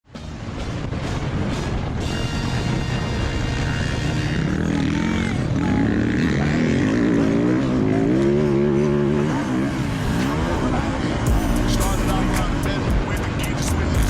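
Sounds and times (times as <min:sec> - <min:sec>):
dirt bike engine revving: 0:00.4 - 0:14.0.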